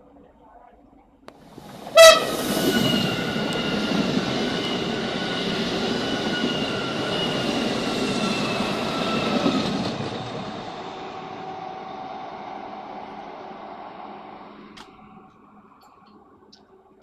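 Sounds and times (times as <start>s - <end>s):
train passing at speed: 1.3s - 17.0s.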